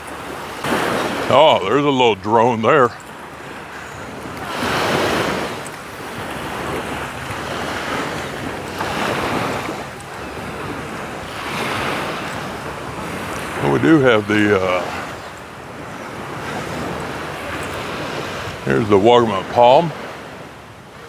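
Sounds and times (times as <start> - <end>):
sea waves washing onto beach: 0.0 - 21.0
wind buffeting microphone: 0.0 - 21.0.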